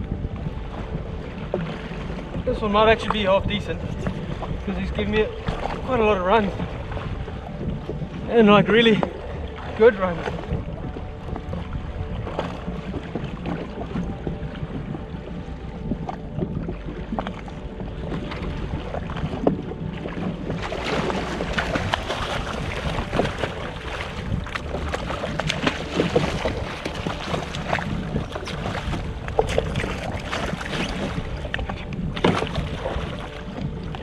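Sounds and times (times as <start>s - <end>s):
waves slapping against hull: 0.0s - 34.0s
wind buffeting microphone: 0.0s - 34.0s.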